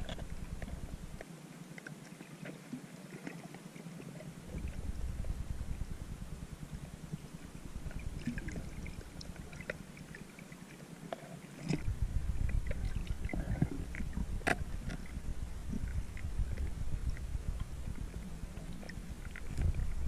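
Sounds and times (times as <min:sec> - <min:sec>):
underwater clicks and crackles: 0:00.0 - 0:20.0
underwater rumble of moving water: 0:00.0 - 0:20.0.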